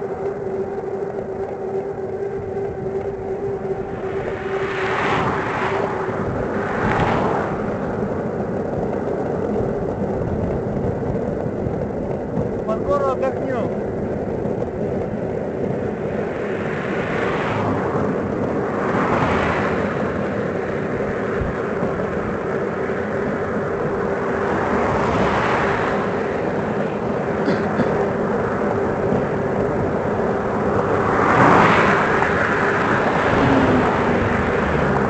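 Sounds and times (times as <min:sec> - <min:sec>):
vehicles swishing past: 0:00.0 - 0:35.0
wind and road noise: 0:00.0 - 0:35.0.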